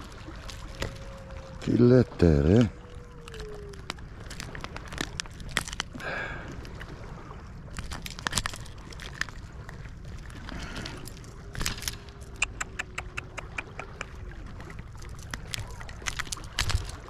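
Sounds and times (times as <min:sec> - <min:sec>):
faint steady hum: 0:00.0 - 0:17.0
wind and sea rumble: 0:00.0 - 0:17.0.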